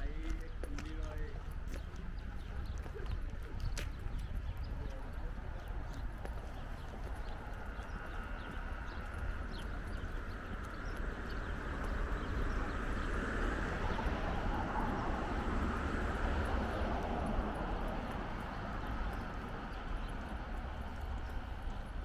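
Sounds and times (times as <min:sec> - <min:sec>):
city traffic: 0:00.0 - 0:22.0
faint footsteps on paving: 0:00.0 - 0:22.0.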